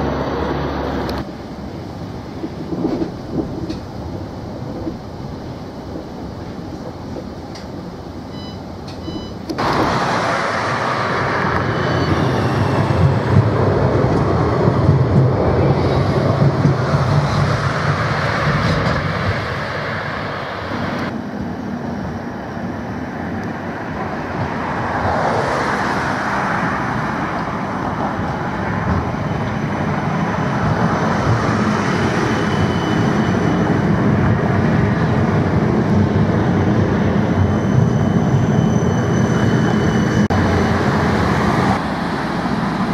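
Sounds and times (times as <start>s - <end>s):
hum inside a tram: 0.0s - 42.9s
street traffic noise: 0.0s - 42.9s
tram passing on rails: 0.0s - 42.9s.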